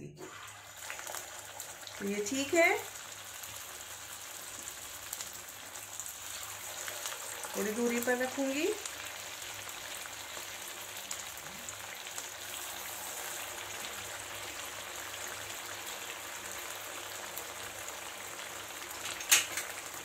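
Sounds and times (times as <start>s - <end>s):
patties sizzling in oil: 0.2s - 20.0s.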